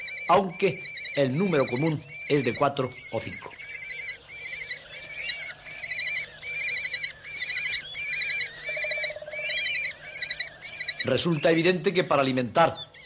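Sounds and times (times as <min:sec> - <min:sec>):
kestrels trilled calls: 0:00.0 - 0:13.0.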